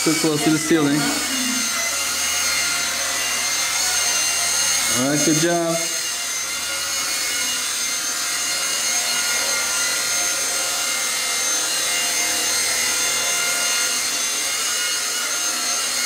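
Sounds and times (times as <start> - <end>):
rc helicopter rotor whine: 0.0 - 16.0.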